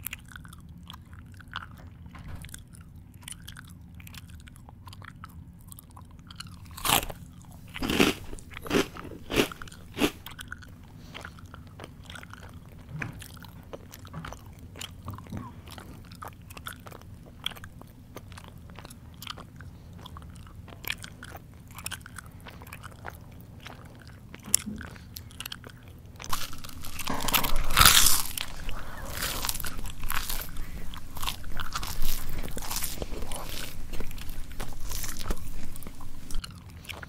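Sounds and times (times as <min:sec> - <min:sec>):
crunching of crunchy food: 0:00.0 - 0:37.0.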